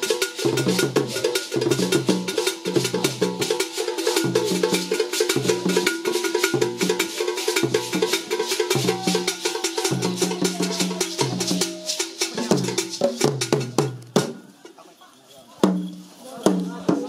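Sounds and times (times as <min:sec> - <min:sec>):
drums and percussion playing: 0:00.0 - 0:17.0.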